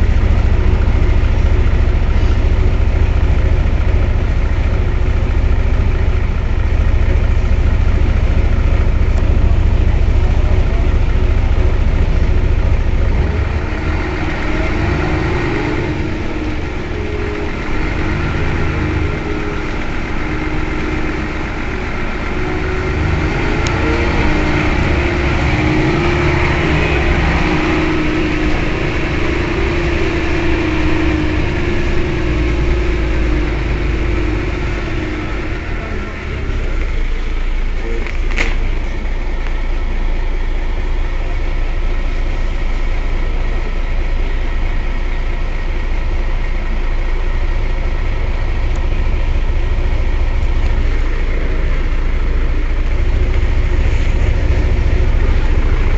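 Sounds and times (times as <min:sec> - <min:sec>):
bus diesel engine rumble: 0:00.0 - 0:55.9
steady whine: 0:00.0 - 0:55.9.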